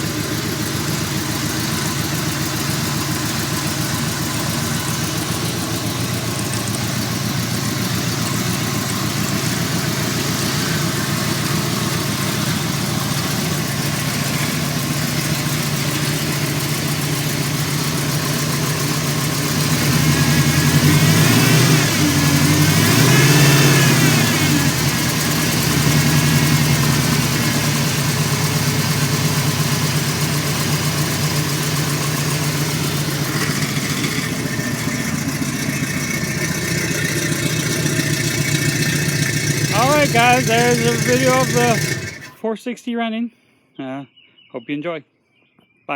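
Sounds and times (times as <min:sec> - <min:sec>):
engine idling and revving: 0:00.0 - 0:42.4.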